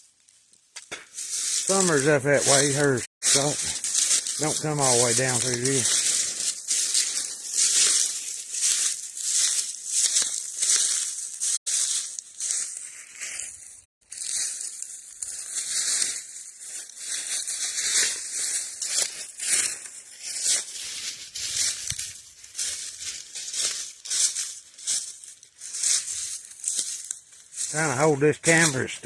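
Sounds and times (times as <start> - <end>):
footsteps crunching dry leaves: 0.8 - 29.0.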